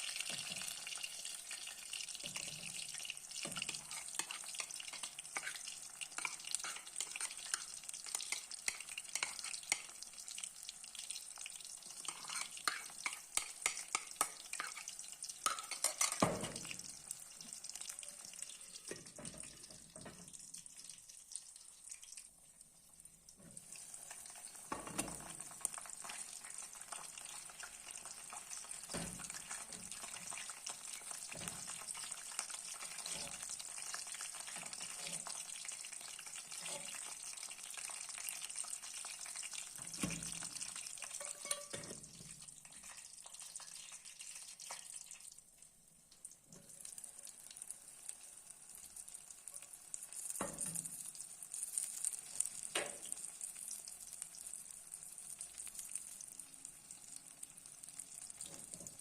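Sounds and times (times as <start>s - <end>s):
food sizzling in a hot pan: 0.0s - 59.0s.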